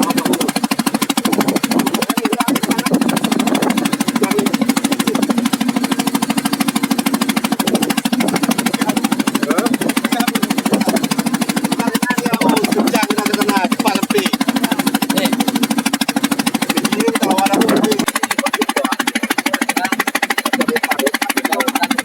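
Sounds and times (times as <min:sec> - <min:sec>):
boat engine running: 0:00.0 - 0:22.0
faint voices: 0:00.0 - 0:22.0.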